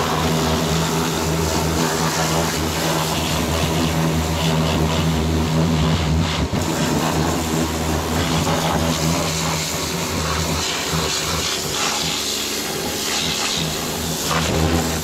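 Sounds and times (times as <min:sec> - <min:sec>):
high-pressure water jet hiss: 0:00.0 - 0:15.0
pressure washer motor drone: 0:00.0 - 0:15.0.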